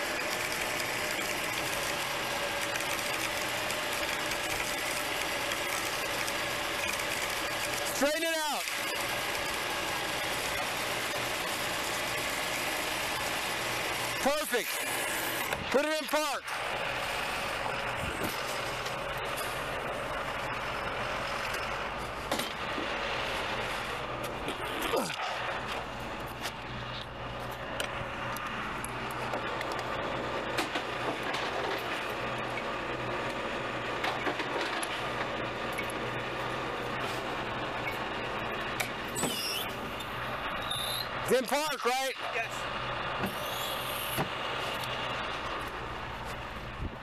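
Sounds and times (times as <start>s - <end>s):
tow truck engine and winch: 0.0s - 47.0s.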